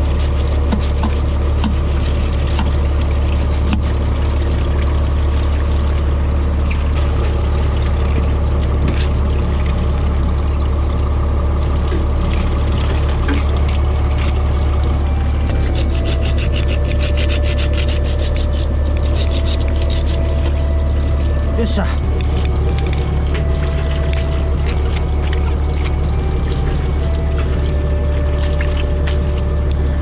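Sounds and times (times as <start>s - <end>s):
boat engine droning: 0.0s - 30.0s
water splashing along hull: 0.0s - 30.0s.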